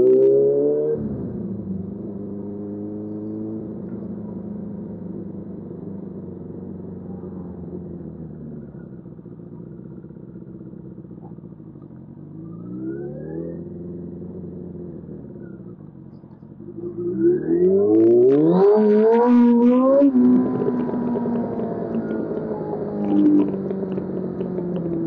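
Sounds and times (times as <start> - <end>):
motorcycle engine running: 1.0 - 25.0.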